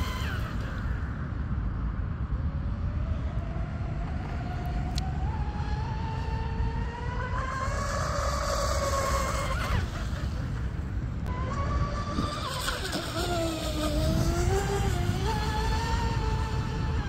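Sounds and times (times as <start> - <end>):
rc boat motors whining: 0.0 - 17.0.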